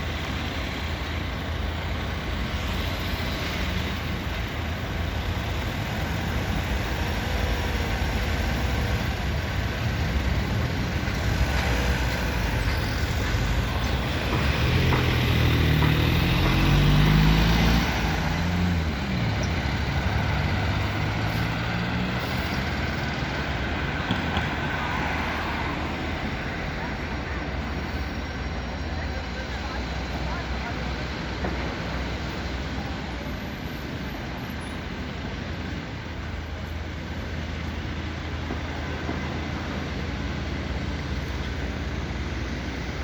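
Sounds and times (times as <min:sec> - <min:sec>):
road traffic: 0:00.0 - 0:43.0
truck passing: 0:00.0 - 0:43.0.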